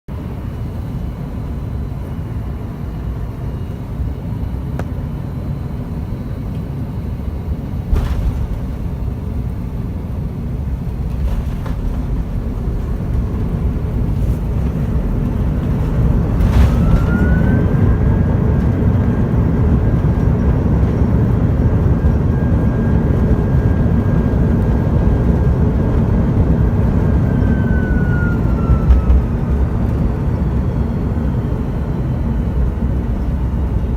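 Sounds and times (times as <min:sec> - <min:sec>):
airplane cabin rumble: 0:00.1 - 0:33.9
mechanical whine: 0:00.1 - 0:33.9.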